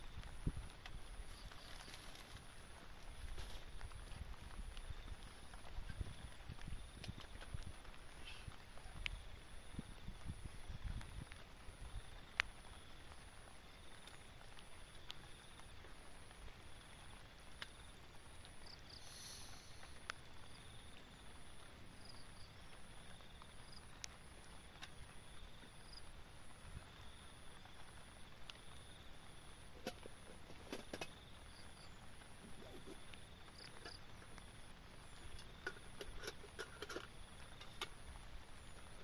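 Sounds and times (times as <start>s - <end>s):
light rain falling: 0.0s - 39.0s
insect call pulsing: 0.2s - 39.0s.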